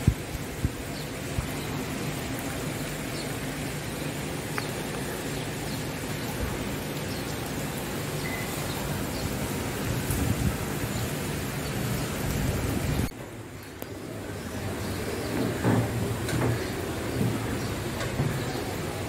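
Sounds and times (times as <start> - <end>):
heavy rain on water: 0.0 - 19.0.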